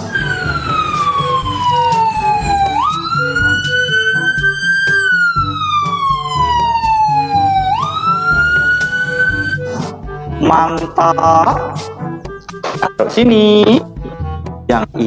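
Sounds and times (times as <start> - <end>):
ambulance siren wailing: 0.0 - 12.4
background music with steady beat: 0.0 - 15.0.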